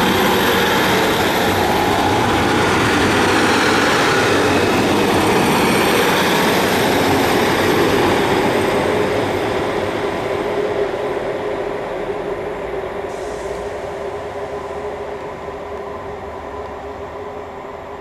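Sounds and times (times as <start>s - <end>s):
diesel train engines droning: 0.0s - 18.0s.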